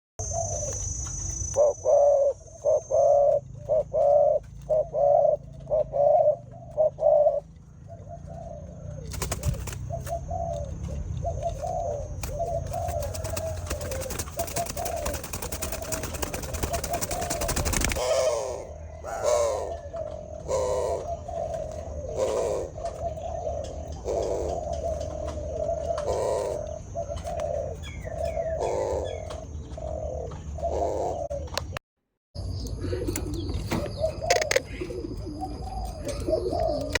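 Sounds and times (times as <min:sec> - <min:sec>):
doves cooing: 0:01.6 - 0:31.8, 0:32.7 - 0:37.0.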